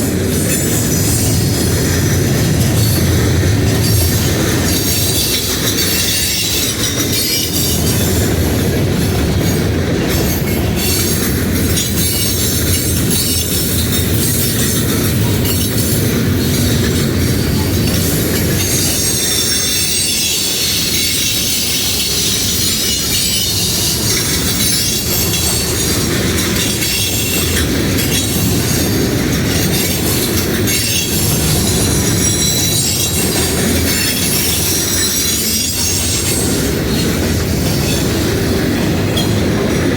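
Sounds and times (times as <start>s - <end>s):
freight train rolling past: 0.0s - 39.9s
wheel flanges squealing: 0.0s - 39.9s
wheels clicking over rail joints: 0.0s - 39.9s.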